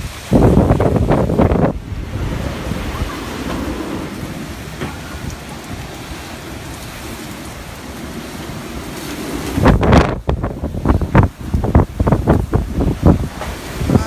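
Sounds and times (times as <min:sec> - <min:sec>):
wind and rain rushing: 0:00.0 - 0:14.0.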